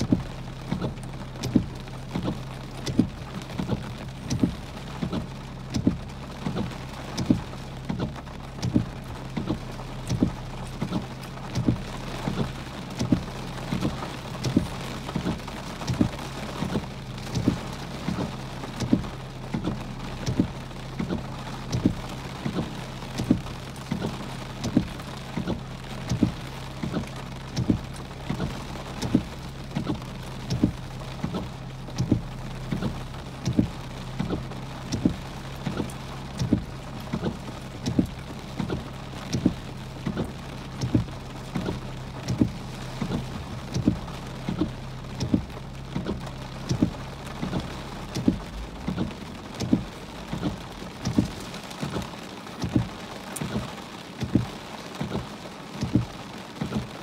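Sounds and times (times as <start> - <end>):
heavy rain on a car: 0.0 - 57.0.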